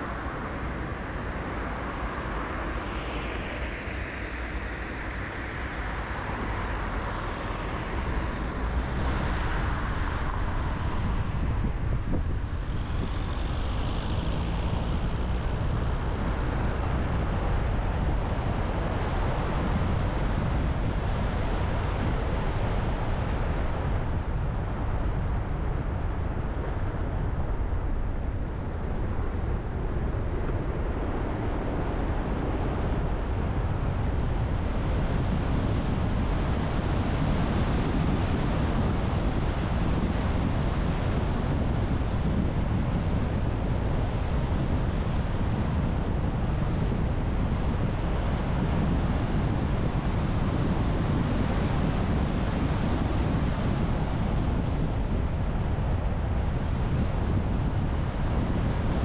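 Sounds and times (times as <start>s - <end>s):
car road and engine rumble: 0.0s - 59.0s
wind on microphone: 0.0s - 59.0s.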